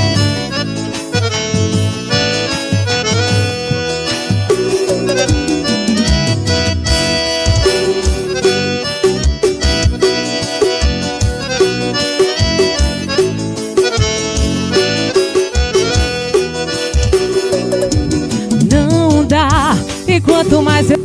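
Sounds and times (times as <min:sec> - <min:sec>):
accordion melody: 0:00.0 - 0:21.0
drum and bass beat: 0:00.0 - 0:21.0.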